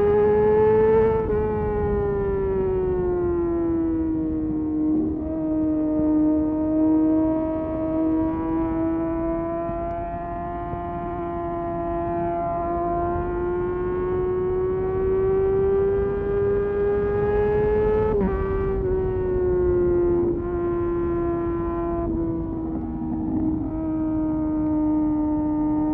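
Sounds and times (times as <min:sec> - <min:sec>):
motorcycle engine revving high: 0:00.0 - 0:25.9.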